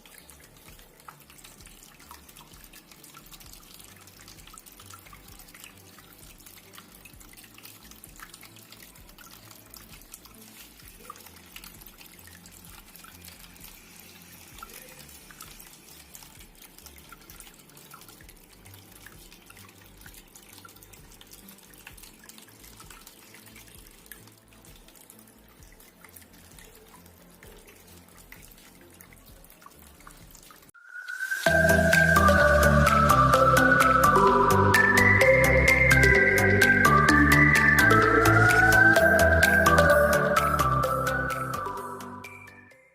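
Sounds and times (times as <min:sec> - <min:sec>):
water trickling and dripping: 0:00.0 - 0:42.6.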